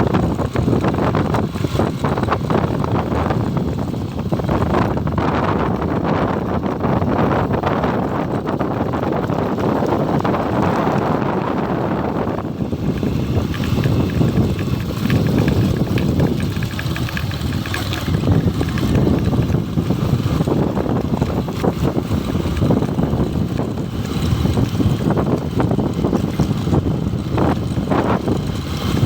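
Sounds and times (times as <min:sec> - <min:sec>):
motorcycle engine rumbling: 0:00.0 - 0:29.0
wind buffeting microphone: 0:00.0 - 0:29.0.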